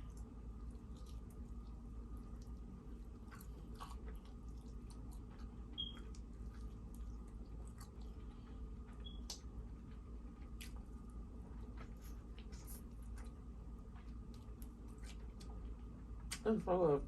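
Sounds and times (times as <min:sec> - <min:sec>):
person chewing food: 0:00.0 - 0:16.4.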